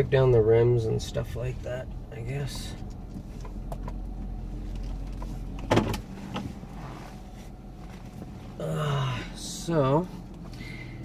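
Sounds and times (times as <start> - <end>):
minivan engine hum: 0.0 - 11.0.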